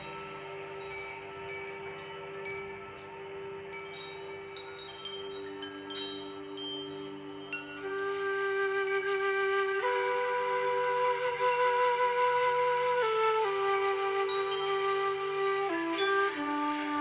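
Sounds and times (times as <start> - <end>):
wind chimes tinkling: 0.0 - 17.0.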